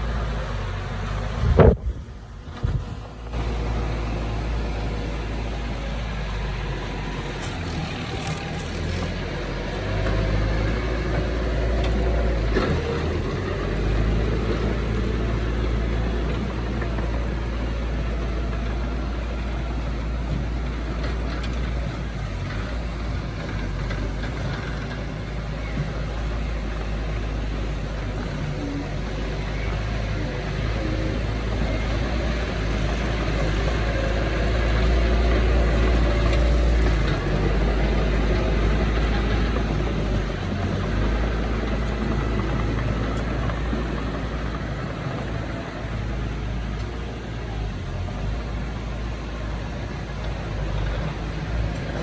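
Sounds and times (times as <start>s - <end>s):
diesel earthmoving machinery rumbling: 0.0s - 52.0s.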